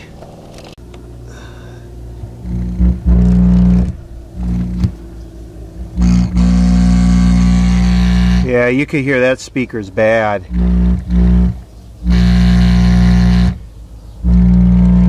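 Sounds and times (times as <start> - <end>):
distorted speaker buzzing hum: 0.0 - 15.0.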